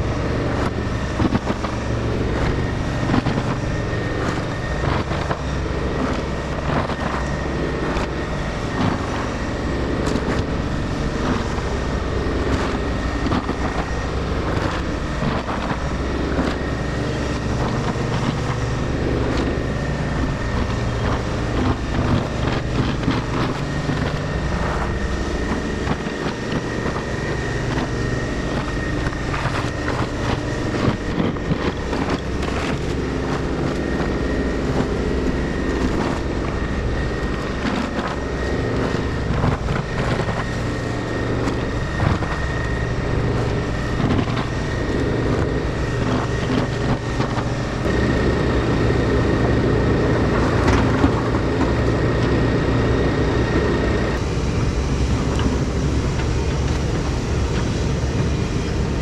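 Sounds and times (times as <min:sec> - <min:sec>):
excavator diesel engine: 0:00.0 - 0:59.0
thin high whine: 0:00.0 - 0:59.0.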